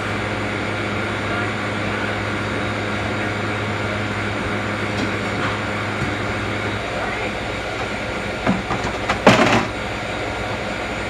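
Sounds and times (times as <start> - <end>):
compressor humming: 0.0 - 11.0
condenser fan whooshing: 0.0 - 11.0.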